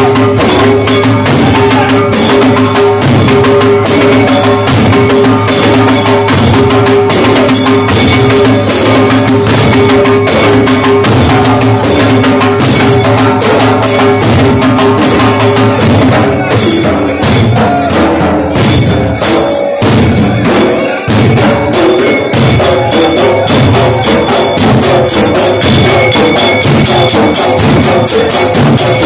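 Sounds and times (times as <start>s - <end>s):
barrel drums beaten fast: 0.0s - 29.0s
metallic cymbal tones: 0.0s - 29.0s.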